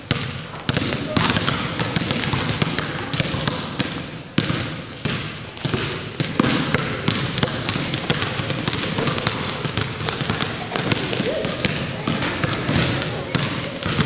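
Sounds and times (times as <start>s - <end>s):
basketballs bouncing on gym floor: 0.0s - 14.0s.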